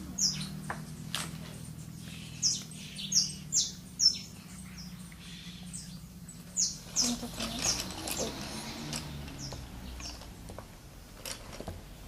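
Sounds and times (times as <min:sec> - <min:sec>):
small bird chirping: 0:00.0 - 0:11.2.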